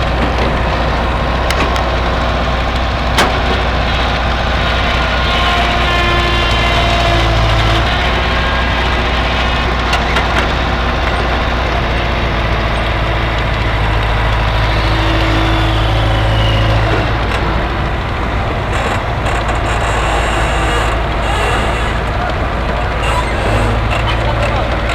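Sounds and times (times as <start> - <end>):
heavy machine engine running: 0.0 - 24.9.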